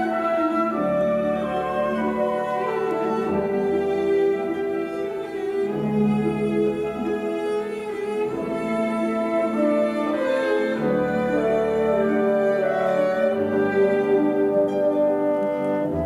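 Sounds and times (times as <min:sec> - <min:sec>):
orchestral strings slow melody: 0:00.0 - 0:16.0.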